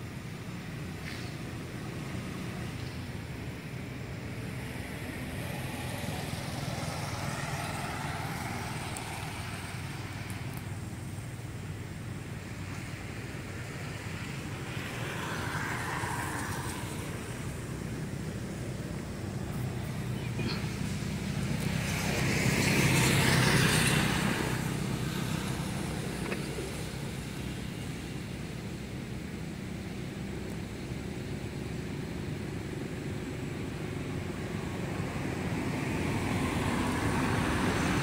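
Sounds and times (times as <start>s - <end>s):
vehicle passing with low rumble: 0.0s - 38.0s.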